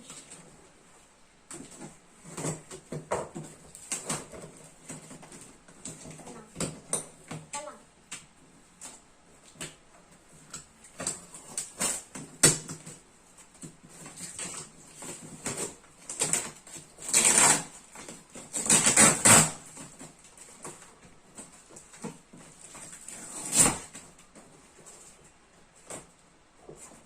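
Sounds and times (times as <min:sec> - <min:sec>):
packaging rustling and scraping: 0:00.0 - 0:07.4, 0:08.6 - 0:27.0.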